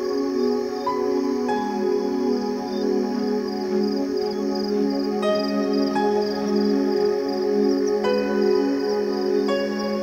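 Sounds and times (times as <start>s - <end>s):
ambient music of held tones: 0.0s - 10.0s.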